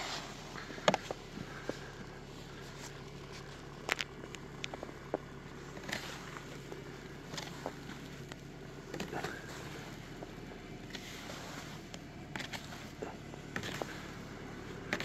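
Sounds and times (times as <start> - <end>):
snow scraping off car: 0.0 - 15.0
steady low hum: 0.0 - 15.0.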